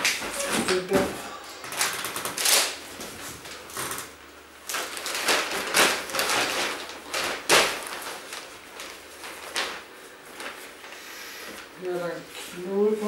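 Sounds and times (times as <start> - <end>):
rustling of belongings being packed: 0.0 - 13.0.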